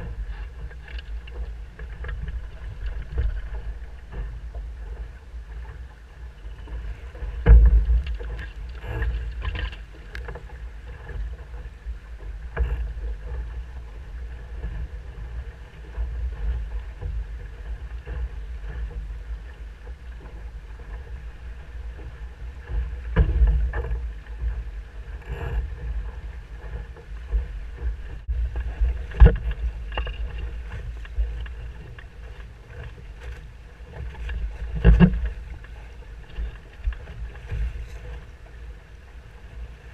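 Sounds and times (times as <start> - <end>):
hull thumping on waves: 0.0 - 39.9
low wind rumble: 0.0 - 39.9.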